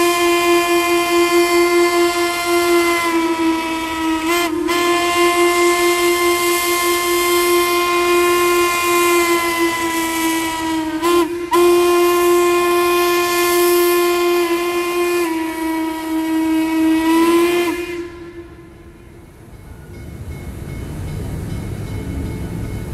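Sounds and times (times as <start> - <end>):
steam locomotive whistle: 0.0 - 20.0.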